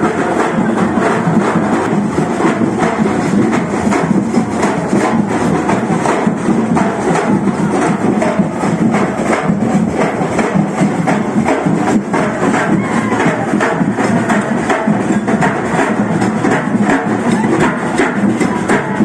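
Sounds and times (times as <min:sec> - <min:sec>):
drums: 0:00.0 - 0:19.0
wood block strikes: 0:00.0 - 0:19.0.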